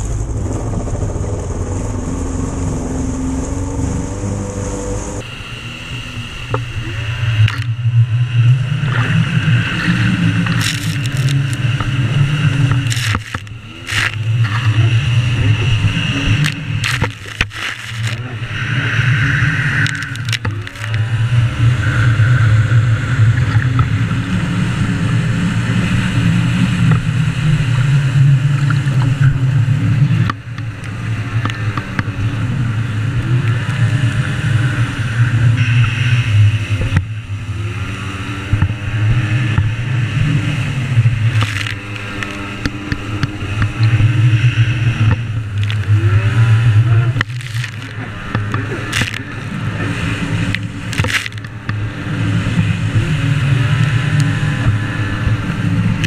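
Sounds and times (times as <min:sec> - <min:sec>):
jet ski engine revving: 0:00.0 - 0:56.0.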